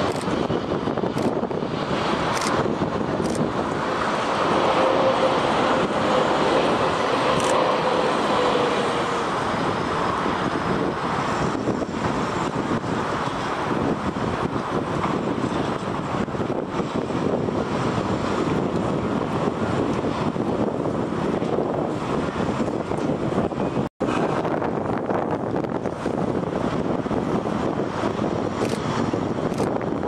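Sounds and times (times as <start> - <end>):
distant jet engines rushing: 0.0 - 30.0.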